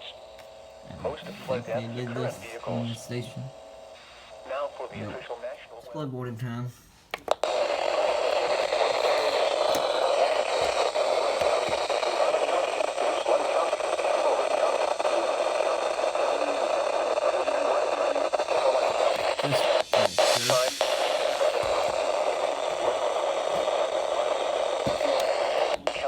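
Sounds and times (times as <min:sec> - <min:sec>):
radio crackles: 0:00.0 - 0:06.5, 0:07.1 - 0:26.0
radio static hiss: 0:00.0 - 0:26.0.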